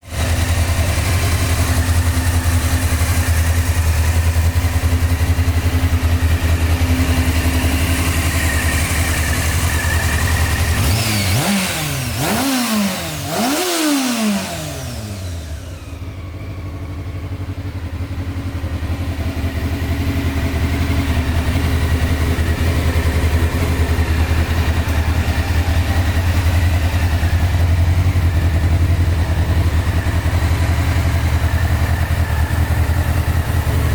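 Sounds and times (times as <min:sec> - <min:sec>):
motorcycle engine idling: 0:00.0 - 0:33.9
motorcycle engine revving: 0:00.0 - 0:33.9.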